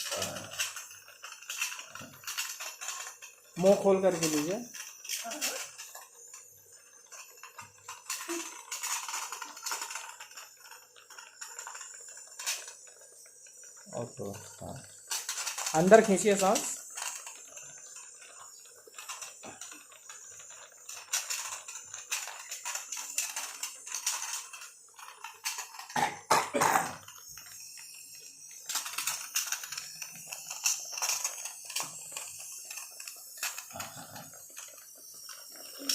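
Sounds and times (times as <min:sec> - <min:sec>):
steam inhaler hissing: 0:00.0 - 0:10.6, 0:11.4 - 0:35.9
small clicks and pops: 0:04.2 - 0:26.2, 0:27.0 - 0:35.9.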